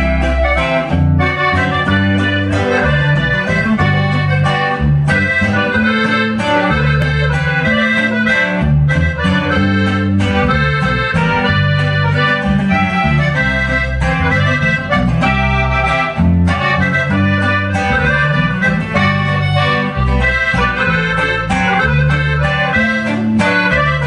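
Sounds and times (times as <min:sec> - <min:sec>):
accordion melody: 0:00.0 - 0:24.0
bass line: 0:00.0 - 0:24.0.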